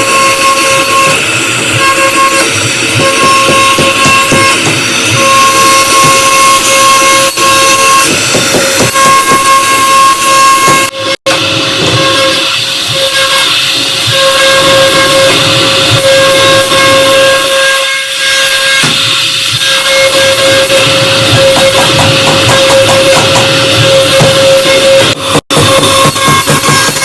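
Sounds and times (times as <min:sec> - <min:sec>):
cutter carving hiss: 0:00.0 - 0:27.0
router spindle whining: 0:00.0 - 0:27.0.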